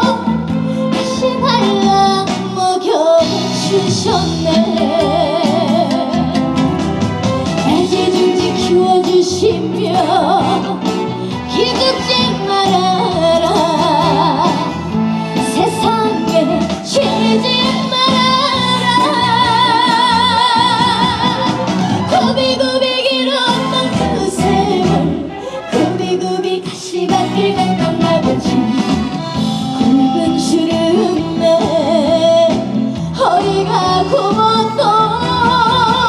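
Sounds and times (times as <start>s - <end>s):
woman singing with vibrato: 0.0s - 6.6s, 7.6s - 36.0s
band accompaniment: 0.0s - 36.0s.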